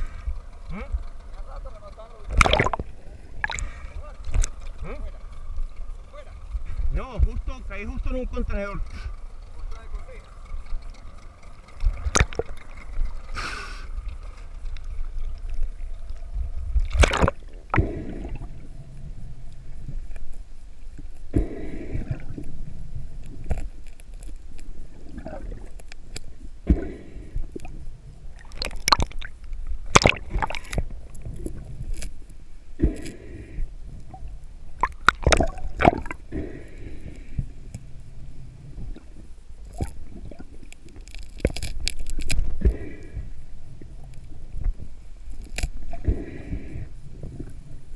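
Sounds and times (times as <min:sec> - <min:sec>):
steady low rumble: 0:00.0 - 0:47.9
water sloshing and gurgling: 0:00.0 - 0:47.9.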